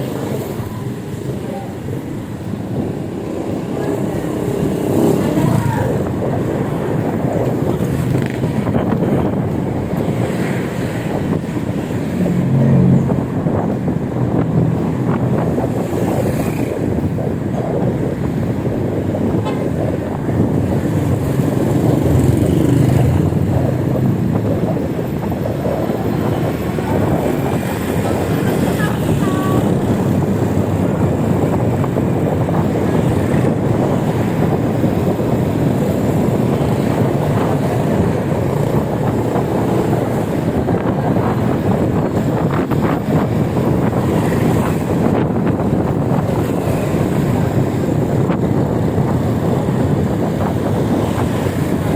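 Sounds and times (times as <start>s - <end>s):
road noise: 0.0s - 51.9s
wind buffeting microphone: 0.0s - 51.9s.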